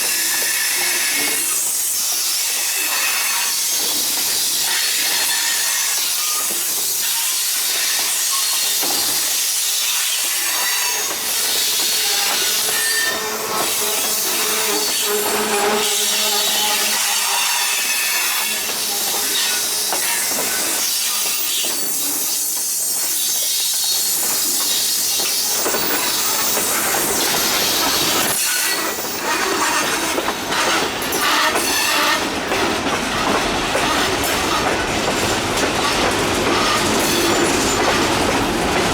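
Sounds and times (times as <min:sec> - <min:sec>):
freight train cars rolling on rails: 0:00.0 - 0:38.9.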